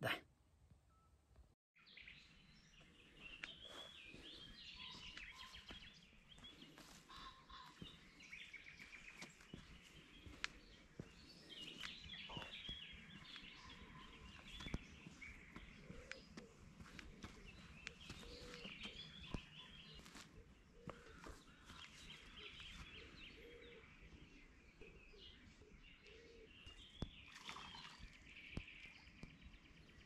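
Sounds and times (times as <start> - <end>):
small birds chirping and singing: 1.8 - 30.0.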